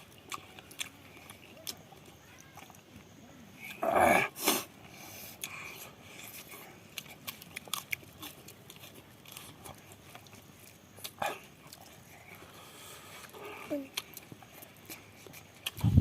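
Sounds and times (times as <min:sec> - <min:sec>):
wet chewing clicks and smacks: 0:00.0 - 0:03.8, 0:04.8 - 0:16.0.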